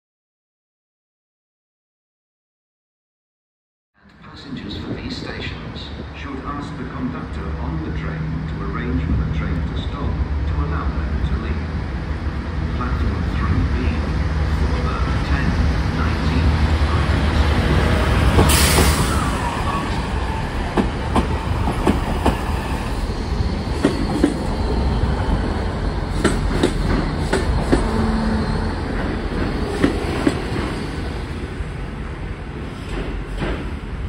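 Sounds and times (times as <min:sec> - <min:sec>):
diesel train rumbling: 0:04.0 - 0:34.0.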